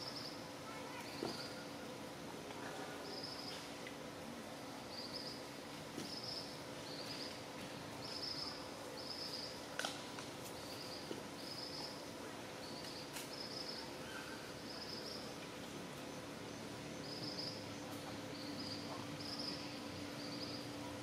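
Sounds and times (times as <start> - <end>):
insect chirping: 0.0 - 1.7, 3.0 - 3.7, 4.8 - 7.4, 8.0 - 9.7, 10.5 - 20.9
outdoor background noise: 0.0 - 21.0.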